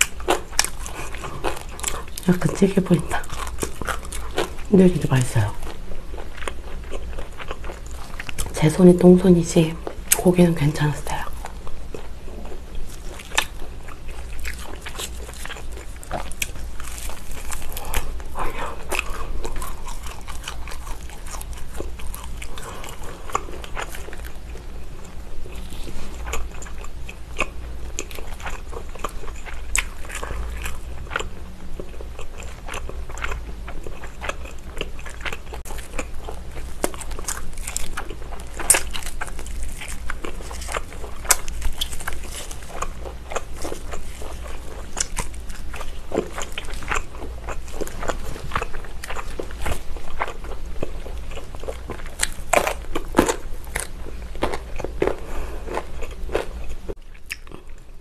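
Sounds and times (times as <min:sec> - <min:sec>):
person chewing meat: 0:00.0 - 0:58.0.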